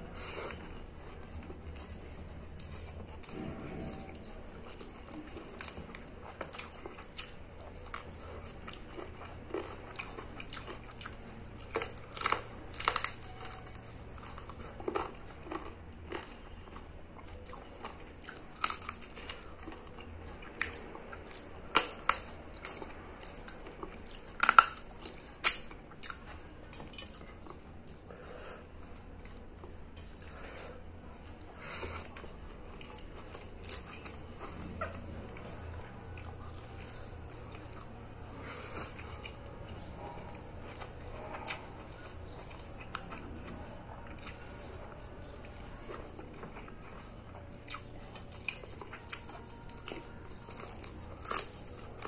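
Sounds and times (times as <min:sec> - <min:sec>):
person chewing with mouth smacks: 0:00.2 - 0:52.0.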